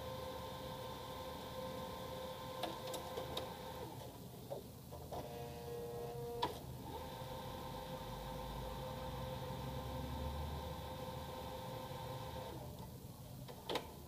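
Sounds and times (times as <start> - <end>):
printer motor whine: 0.0 - 4.1, 5.2 - 12.8.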